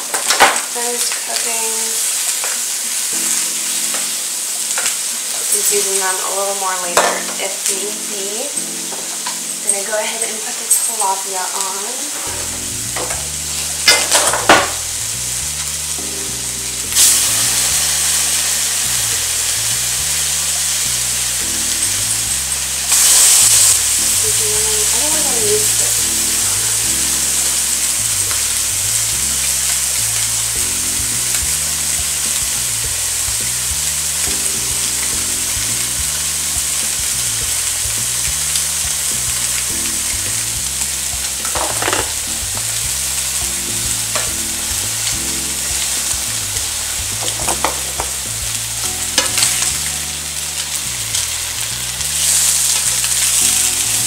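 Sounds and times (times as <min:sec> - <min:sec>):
fish sizzling in frying pans: 0:00.0 - 0:54.0.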